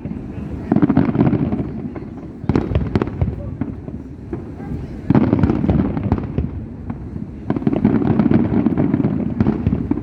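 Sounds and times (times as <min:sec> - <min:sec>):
fireworks crackling pops: 0:00.0 - 0:10.0.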